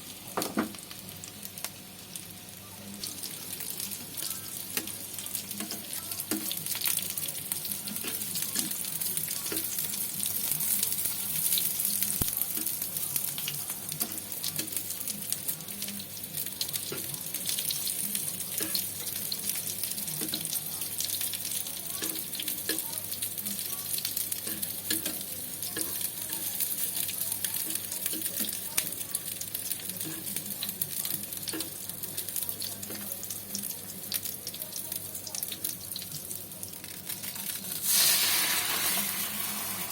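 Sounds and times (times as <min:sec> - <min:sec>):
tofu sizzling in oil: 0:00.0 - 0:39.9.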